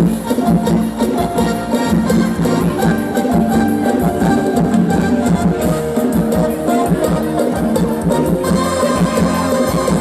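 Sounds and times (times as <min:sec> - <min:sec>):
drums keeping a steady beat: 0:00.0 - 0:10.0
loud live band music: 0:00.0 - 0:10.0.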